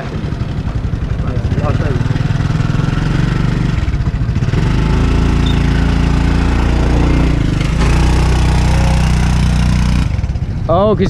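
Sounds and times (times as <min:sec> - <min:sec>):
small motorbike engine: 0:00.0 - 0:11.0.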